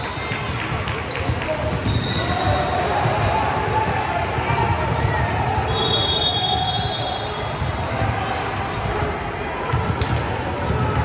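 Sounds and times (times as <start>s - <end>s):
gym hall noise: 0.0s - 11.0s
basketball bouncing on court: 0.1s - 5.7s, 6.6s - 11.0s.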